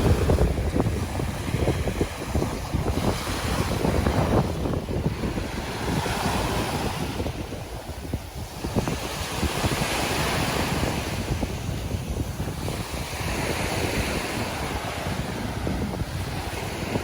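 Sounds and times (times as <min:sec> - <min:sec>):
sea waves on shore: 0:00.0 - 0:17.0
wind buffeting microphone: 0:00.0 - 0:17.0.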